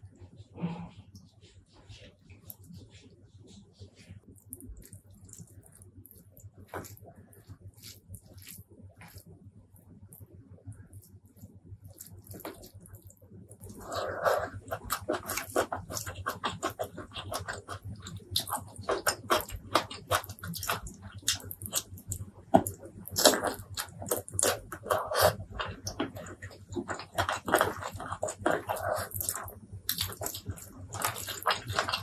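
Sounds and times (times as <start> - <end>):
wet chewing and lip smacking: 4.2 - 32.0.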